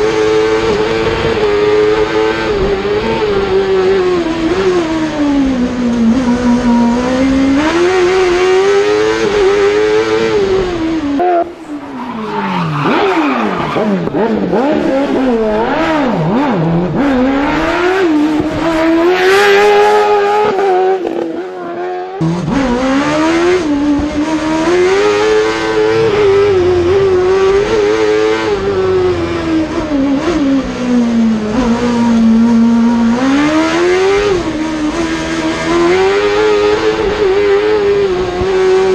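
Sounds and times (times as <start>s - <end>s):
car engine revving hard: 0.0s - 11.6s, 12.8s - 38.9s.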